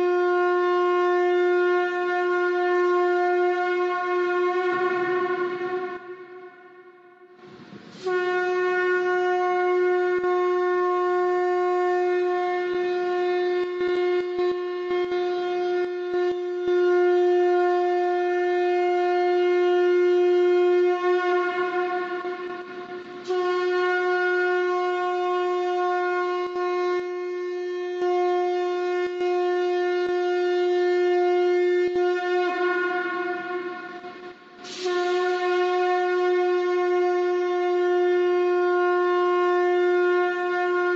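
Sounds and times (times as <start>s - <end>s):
conch shell trumpet blast: 0.0s - 40.9s.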